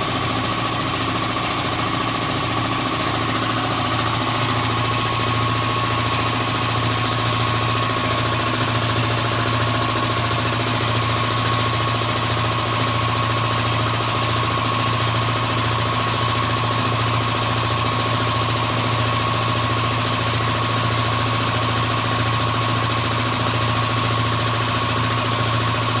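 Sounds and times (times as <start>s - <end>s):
air compressor humming and whining: 0.0s - 26.0s.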